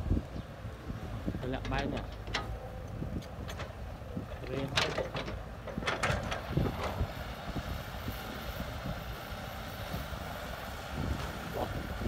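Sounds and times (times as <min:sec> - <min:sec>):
wind on microphone: 0:00.0 - 0:12.0
heavy diesel machinery rumbling: 0:00.1 - 0:12.0.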